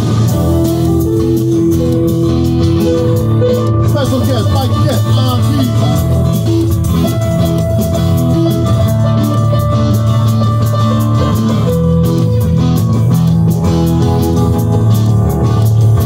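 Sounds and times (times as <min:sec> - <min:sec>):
electric guitars playing riffs: 0:00.0 - 0:16.0
steady drum beat: 0:00.0 - 0:16.0.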